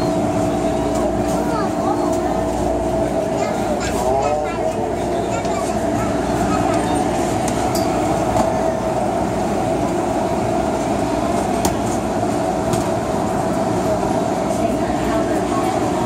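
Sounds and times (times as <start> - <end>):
train and station hum: 0.0 - 16.0.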